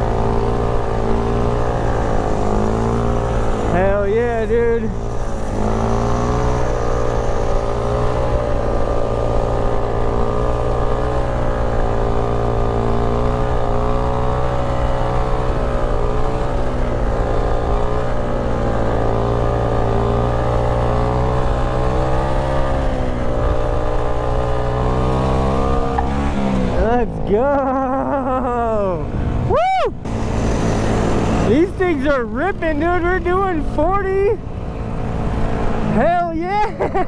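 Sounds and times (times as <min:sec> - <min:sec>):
motorcycle engine cruising: 0:00.0 - 0:37.0.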